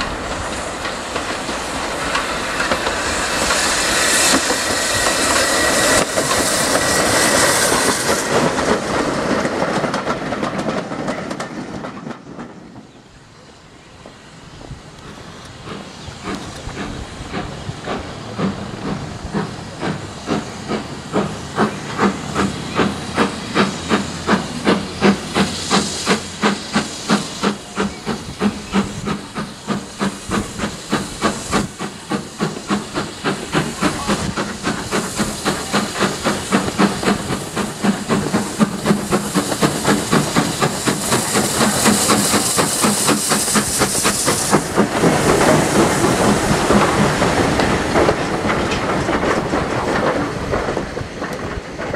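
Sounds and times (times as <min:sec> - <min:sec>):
steam hissing: 0:00.0 - 0:51.9
steam locomotive exhaust beating: 0:00.0 - 0:51.9.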